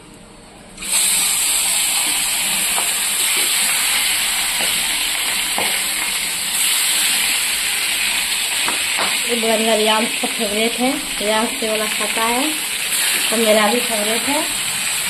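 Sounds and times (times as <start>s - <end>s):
fish sizzling in hot oil: 0.8s - 15.0s.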